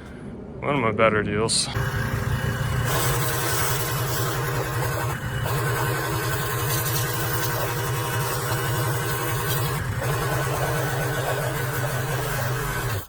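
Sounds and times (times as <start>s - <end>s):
engine idling: 1.8s - 13.0s.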